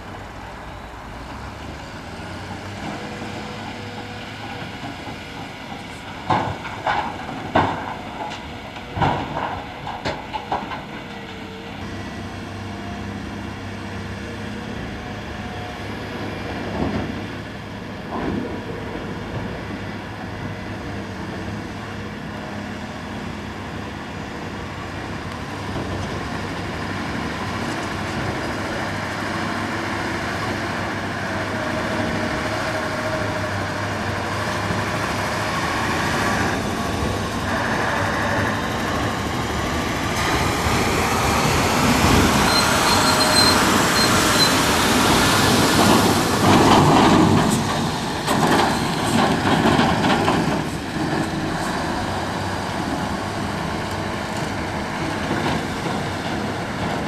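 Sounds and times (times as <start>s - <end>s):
heavy diesel engine hum: 0.0s - 57.0s.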